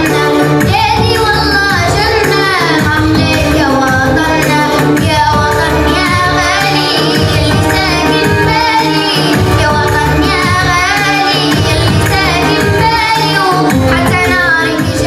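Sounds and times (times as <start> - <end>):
backing track with low beat: 0.0 - 15.0
girl singing into a microphone: 0.0 - 15.0.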